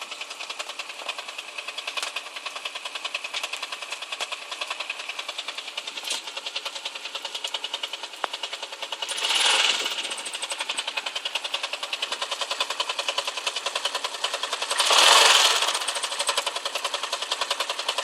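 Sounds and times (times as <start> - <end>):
excavator running with knocking: 0.0 - 18.0.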